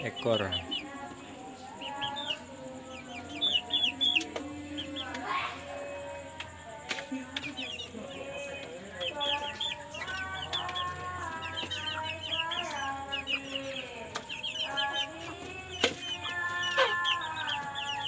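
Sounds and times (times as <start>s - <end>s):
chicks peeping and clucking: 0.0s - 18.0s.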